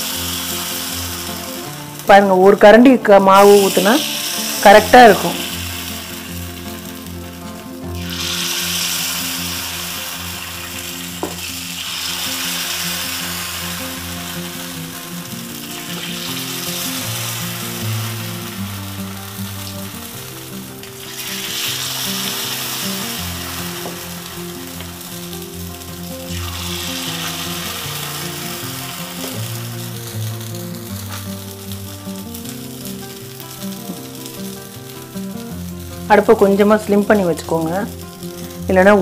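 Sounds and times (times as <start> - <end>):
batter sizzling in hot oil: 0.0 - 39.0
soft background music: 0.0 - 39.0.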